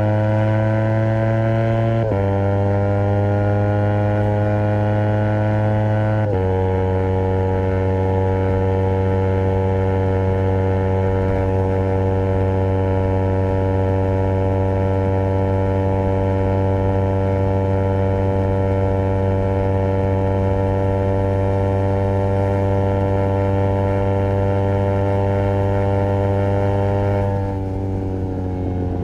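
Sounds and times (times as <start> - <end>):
motorcycle engine cruising: 0.0 - 29.0.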